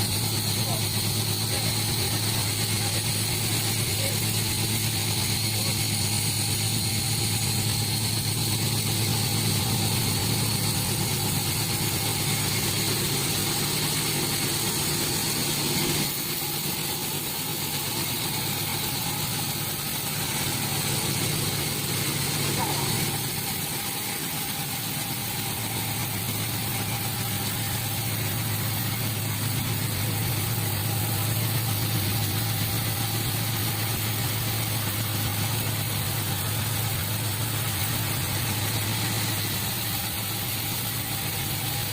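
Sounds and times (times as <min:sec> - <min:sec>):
sawmill machinery drone: 0:00.0 - 0:41.9.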